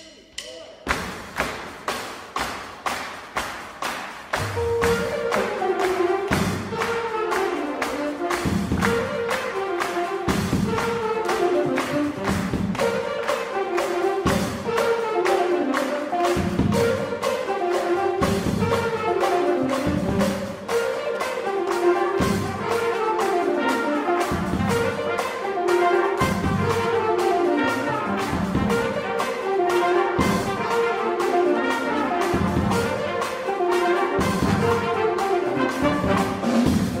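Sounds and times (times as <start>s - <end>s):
steady drum beat: 0.0s - 37.0s
jazz big band playing: 1.0s - 37.0s
horn section riff: 4.3s - 37.0s.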